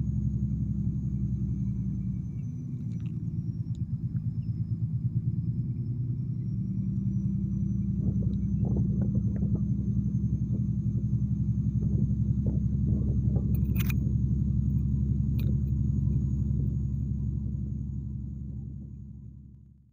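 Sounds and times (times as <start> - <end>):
boat engine droning: 0.0 - 19.9.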